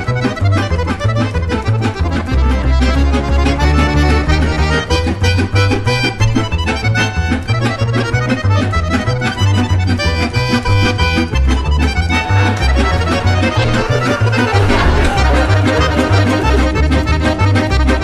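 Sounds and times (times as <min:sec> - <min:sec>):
instrumental music with pulsing bass: 0:00.0 - 0:18.0.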